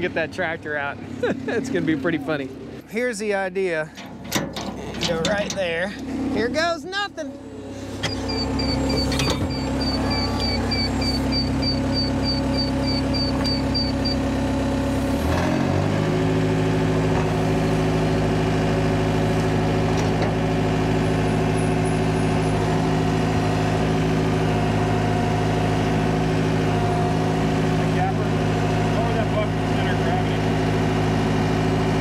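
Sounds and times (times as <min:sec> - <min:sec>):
diesel engine revving under load: 0:04.8 - 0:06.6, 0:07.3 - 0:32.0.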